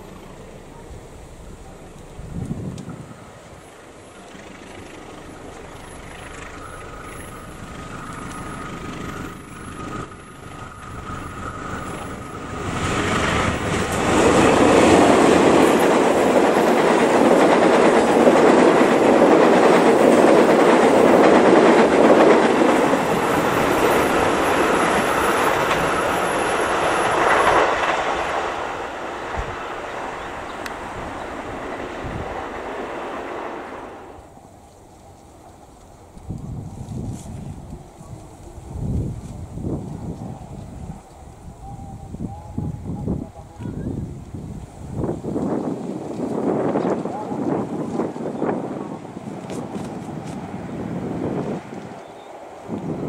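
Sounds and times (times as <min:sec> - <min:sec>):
train passing on rails: 0:00.0 - 0:53.0.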